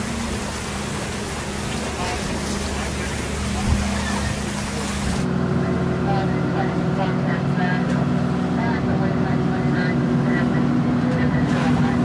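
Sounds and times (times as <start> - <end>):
boat engine hum: 0.0 - 12.0
waves: 0.0 - 12.0.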